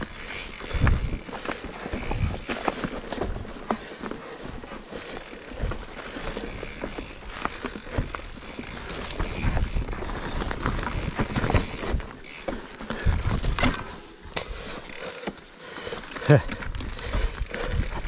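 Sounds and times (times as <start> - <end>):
bike clattering over bumps: 0.0 - 18.0
bike tyres rolling on dirt: 0.0 - 18.0.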